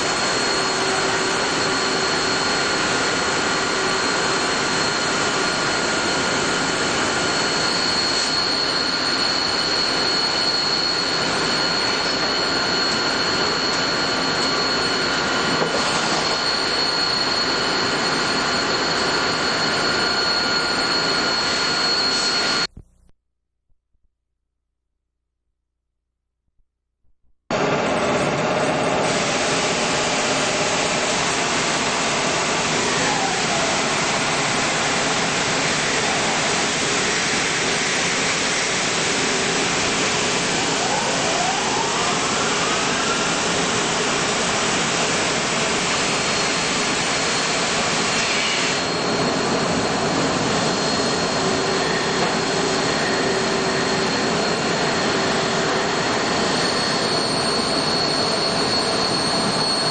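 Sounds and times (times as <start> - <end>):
gliding machine whines: 0.0 - 22.7, 27.5 - 59.9
lathe machine rushing noise: 0.0 - 22.7, 27.6 - 59.9.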